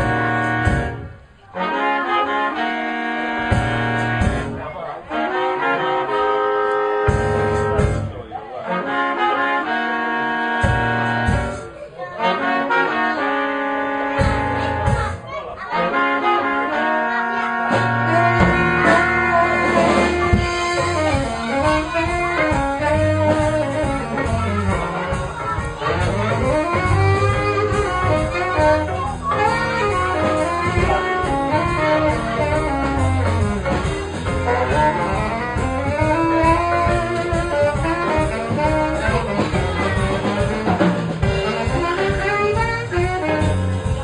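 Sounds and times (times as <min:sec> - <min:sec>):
bass line: 0:00.0 - 0:11.8, 0:12.5 - 0:44.0
jazz band accompaniment: 0:00.0 - 0:44.0
tenor saxophone solo: 0:00.0 - 0:44.0.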